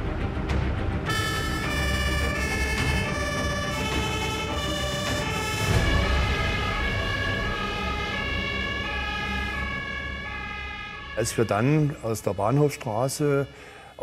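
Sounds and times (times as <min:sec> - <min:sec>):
fire engine two-tone sirens: 0:01.1 - 0:14.0.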